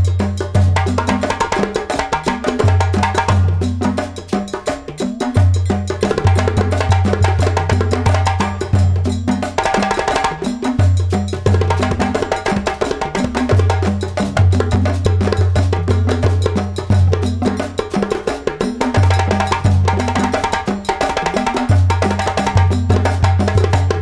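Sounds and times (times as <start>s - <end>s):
clicky percussion beat: 0.0s - 24.0s.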